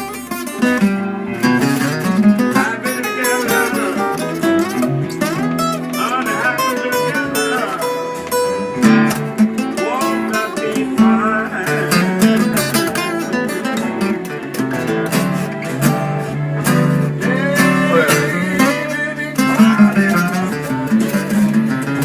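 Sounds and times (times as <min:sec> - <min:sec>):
blues guitar: 0:00.0 - 0:22.0.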